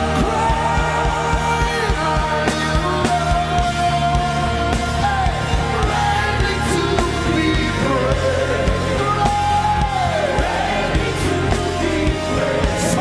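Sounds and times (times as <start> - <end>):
drums: 0.0 - 13.0
live gospel band with singing: 0.0 - 13.0.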